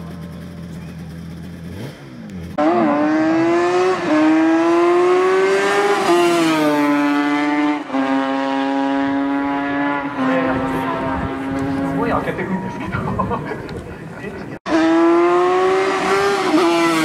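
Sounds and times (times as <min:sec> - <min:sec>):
racing motorcycle engine: 0:00.0 - 0:17.0.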